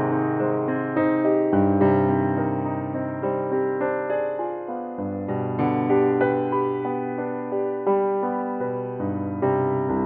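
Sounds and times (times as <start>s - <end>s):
gentle keyboard melody: 0.0s - 10.0s.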